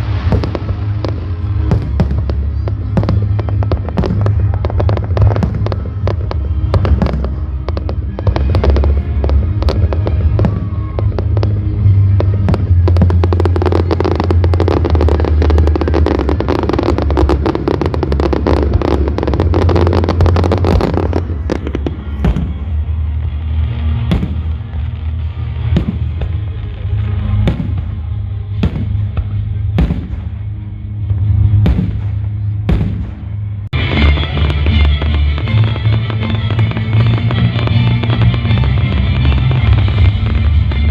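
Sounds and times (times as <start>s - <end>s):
fireworks crackling and banging: 0.0s - 40.9s
music with heavy bass: 0.0s - 40.9s.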